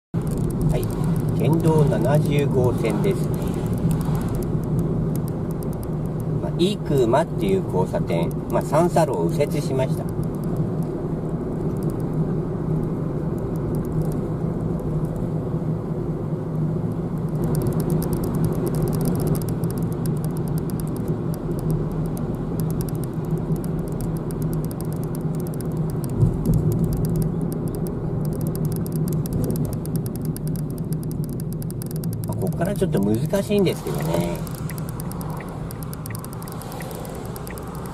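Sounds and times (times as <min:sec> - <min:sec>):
car engine and tyre hum: 0:00.1 - 0:37.9.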